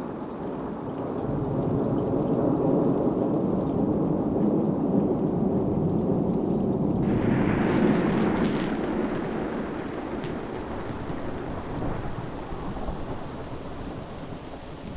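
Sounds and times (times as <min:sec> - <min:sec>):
rain-like rushing noise: 0:00.0 - 0:14.9.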